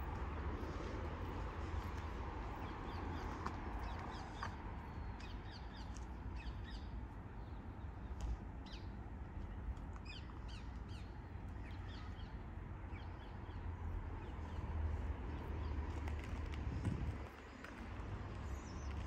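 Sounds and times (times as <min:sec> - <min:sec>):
steady low rumble: 0:00.0 - 0:04.9, 0:06.6 - 0:19.0.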